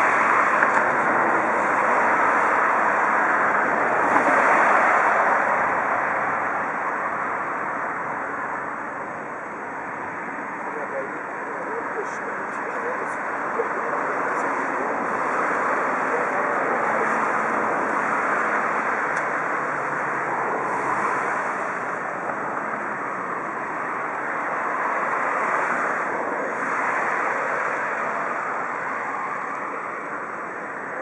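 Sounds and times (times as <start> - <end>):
rushing rail yard and city noise: 0.0 - 31.0.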